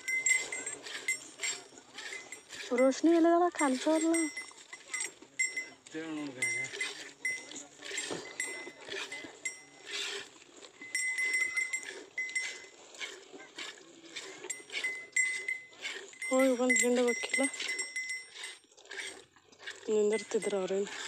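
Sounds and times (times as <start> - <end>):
livestock neck bells jingling: 0.0 - 21.0.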